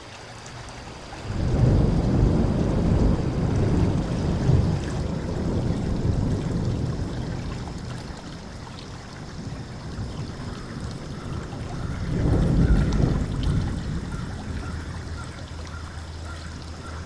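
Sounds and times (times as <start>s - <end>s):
rain: 0.0s - 17.0s
running river water: 0.0s - 17.0s
low thunder rumble: 1.2s - 17.0s.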